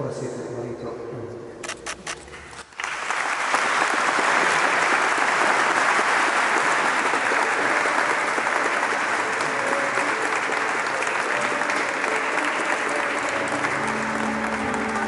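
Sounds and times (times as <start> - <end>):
crowd applauding: 2.5 - 15.0.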